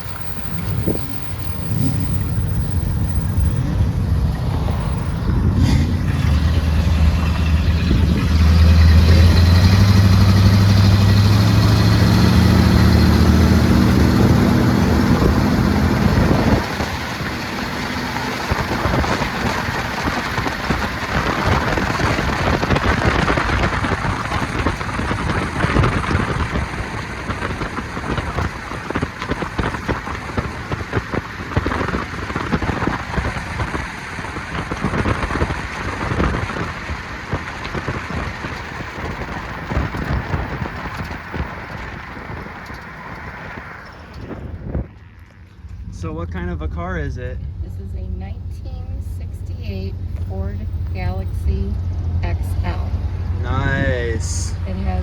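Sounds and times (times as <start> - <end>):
car engine humming: 0.0 - 55.0.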